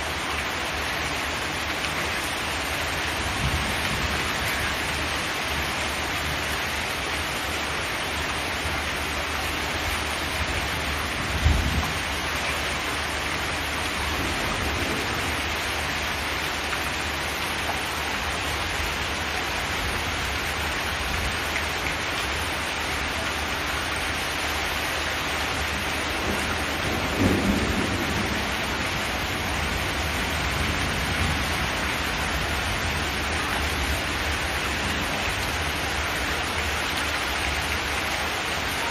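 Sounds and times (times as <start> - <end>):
rain drumming on metal roof: 0.0 - 38.9.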